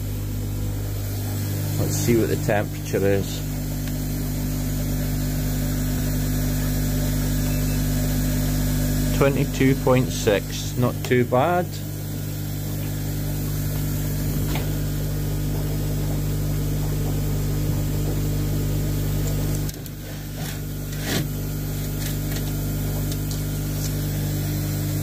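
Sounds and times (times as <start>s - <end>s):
pond pump electrical hum: 0.0s - 25.0s.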